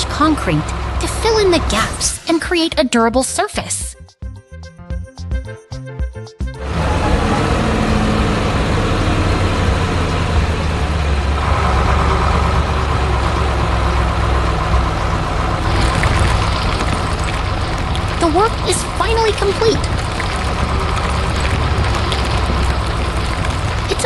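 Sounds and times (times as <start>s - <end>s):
truck engine idling: 0.0s - 2.4s, 6.6s - 24.0s.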